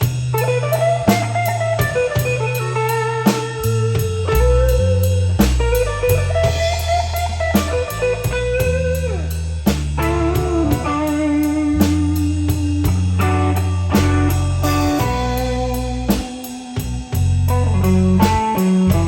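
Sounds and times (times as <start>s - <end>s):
drum kit steady beat: 0.0s - 19.0s
electric lead guitar: 0.0s - 19.0s
walking bass line: 0.0s - 19.0s.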